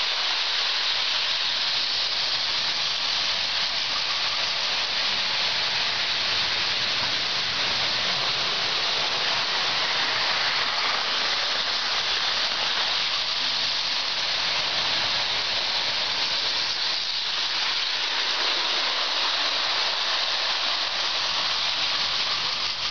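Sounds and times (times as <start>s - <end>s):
toy train whirring on metal rails: 0.0s - 22.9s.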